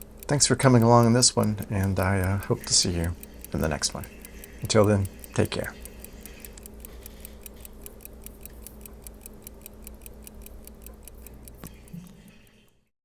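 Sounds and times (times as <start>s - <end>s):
pocket watch ticking: 0.0s - 12.9s.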